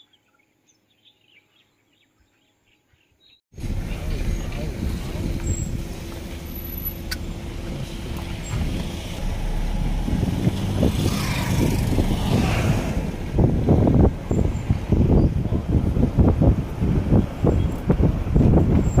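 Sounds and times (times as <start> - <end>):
gusty low thumps: 3.6 - 19.0
vehicle engine and road rumble: 3.6 - 19.0.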